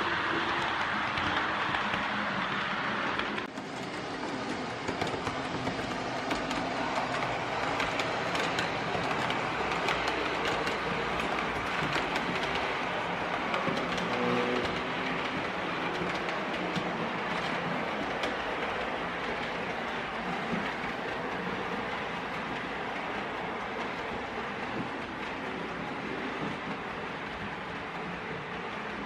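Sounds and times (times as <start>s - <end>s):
model train rattling on track: 0.0s - 29.0s.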